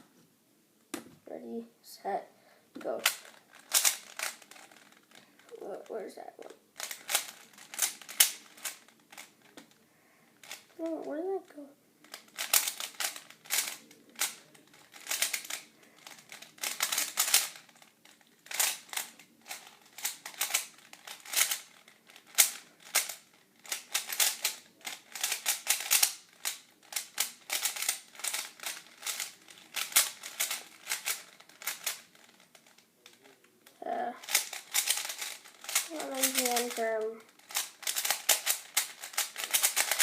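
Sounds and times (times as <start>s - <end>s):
puzzle cube clicking: 2.9s - 5.5s, 6.4s - 9.7s, 12.0s - 33.2s, 34.2s - 40.0s.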